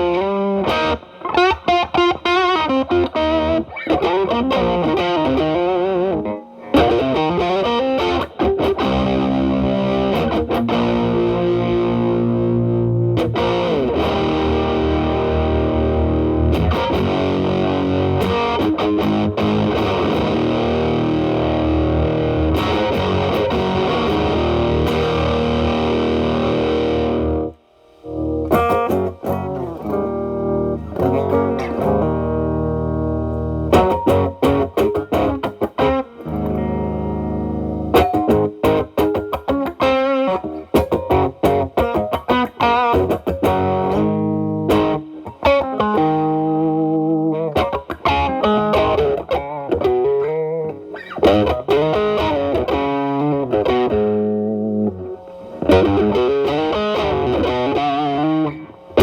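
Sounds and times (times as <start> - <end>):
clean electric guitar notes and chords: 0.0 - 59.0
heavily distorted electric guitar chord: 4.3 - 46.7, 51.3 - 59.0.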